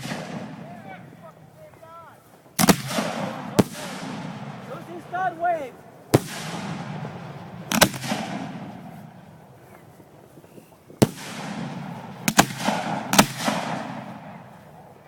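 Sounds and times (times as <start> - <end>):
fireworks banging: 0.0 - 15.0
rolling echo and crackle: 0.0 - 15.0.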